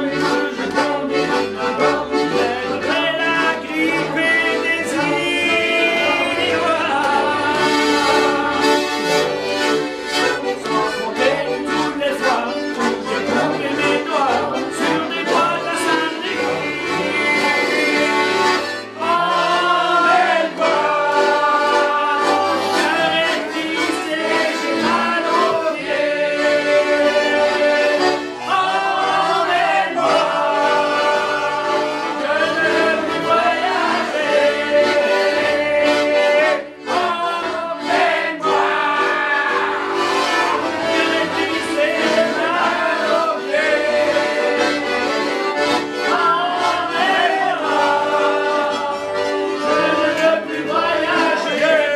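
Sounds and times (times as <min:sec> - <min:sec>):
accordion folk melody: 0:00.0 - 0:51.9.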